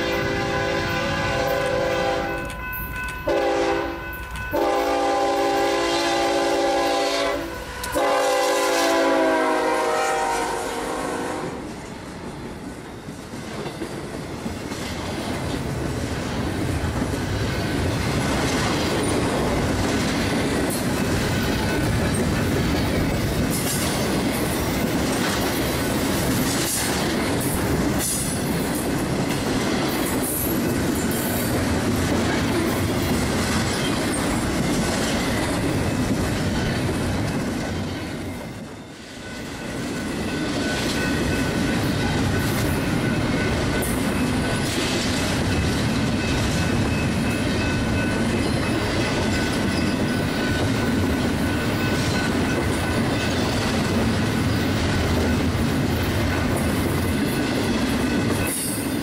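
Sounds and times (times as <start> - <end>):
freight train rumble and clatter: 0.0 - 59.0.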